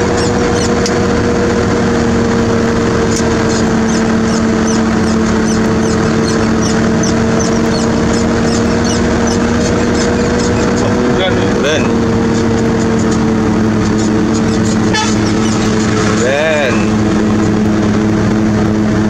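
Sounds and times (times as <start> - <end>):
diesel machinery humming: 0.0 - 19.0.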